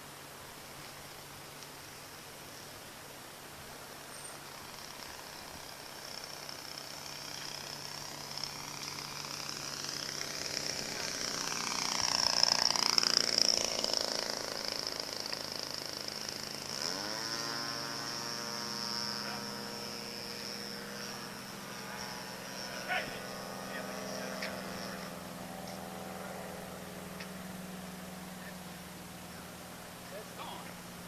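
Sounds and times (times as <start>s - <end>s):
model plane engine droning: 0.0s - 31.0s.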